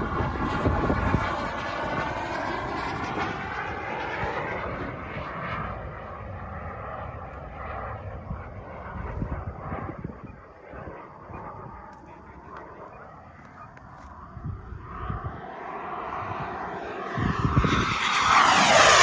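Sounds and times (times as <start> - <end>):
model jet whine flying past: 0.0 - 19.0.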